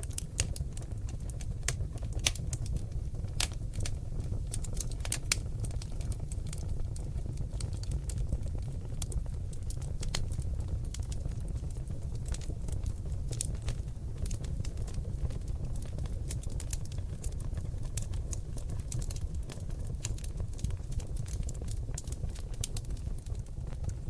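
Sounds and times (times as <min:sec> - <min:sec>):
logs crackling and popping in fire: 0:00.0 - 0:24.0
low rumble of flames: 0:00.0 - 0:24.0.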